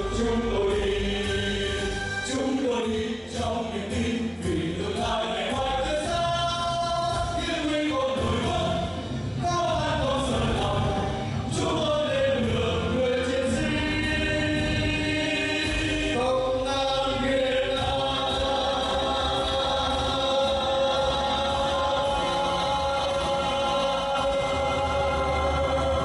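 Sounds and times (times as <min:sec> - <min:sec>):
background music with singing voices: 0:00.0 - 0:26.0.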